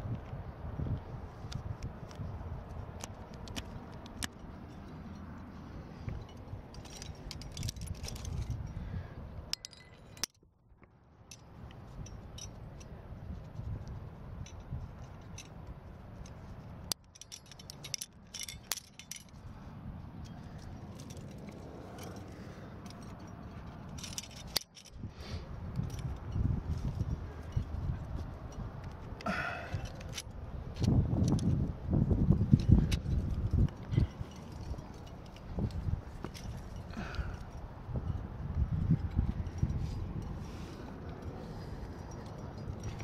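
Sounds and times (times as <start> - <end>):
low rumble of handling noise: 0.0 - 43.0
metal carabiners jangling and clinking: 1.4 - 10.6, 11.2 - 43.0.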